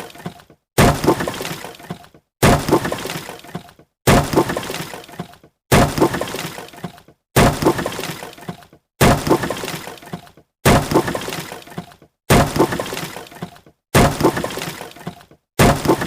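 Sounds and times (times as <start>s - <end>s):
wood crashing and breaking: 0.0s - 16.0s.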